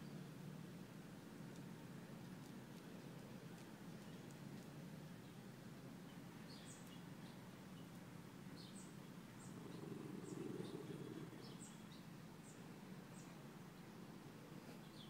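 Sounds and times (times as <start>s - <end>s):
steady low background noise: 0.0s - 15.0s.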